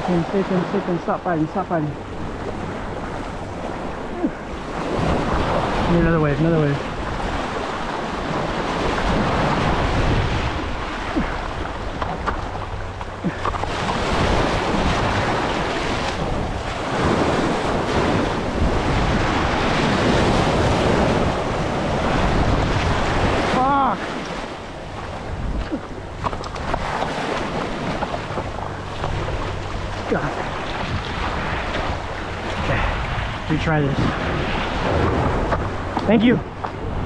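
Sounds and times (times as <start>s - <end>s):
sea waves washing against jetty: 0.0s - 37.0s
wind buffeting microphone: 0.0s - 37.0s.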